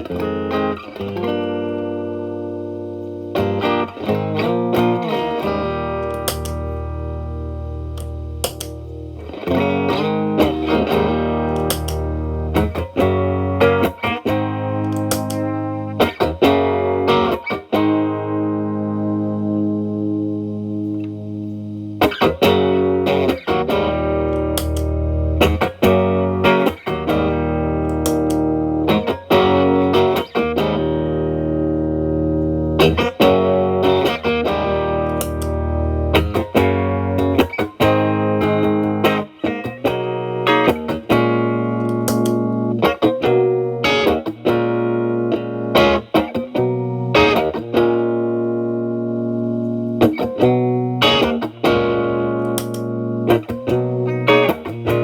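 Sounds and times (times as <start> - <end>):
electric guitar chords: 0.0 - 55.0.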